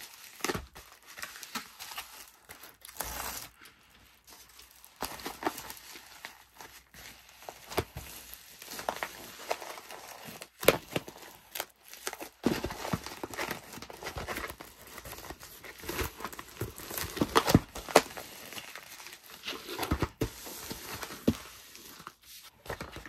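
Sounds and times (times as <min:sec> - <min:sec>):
bubble mailer crinkling: 0:04.2 - 0:23.0.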